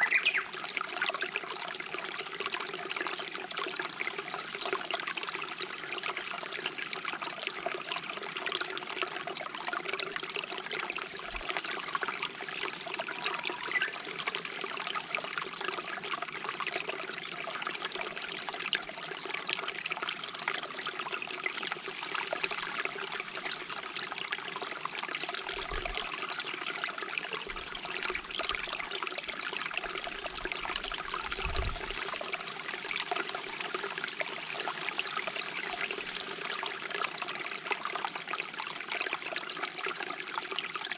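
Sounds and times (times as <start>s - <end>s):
stream babbling and trickling: 0.0s - 40.9s.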